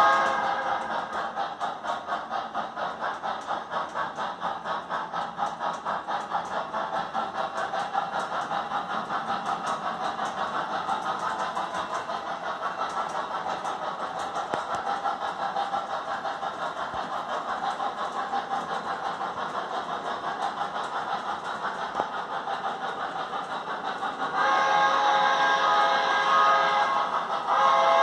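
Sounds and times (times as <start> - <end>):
electronic steam locomotive chuffing: 0.0 - 28.0.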